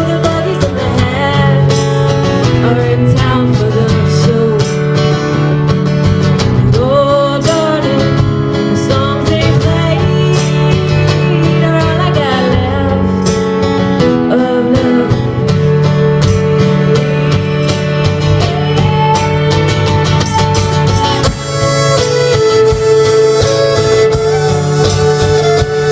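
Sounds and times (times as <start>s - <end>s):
country song on acoustic guitars: 0.0s - 25.9s.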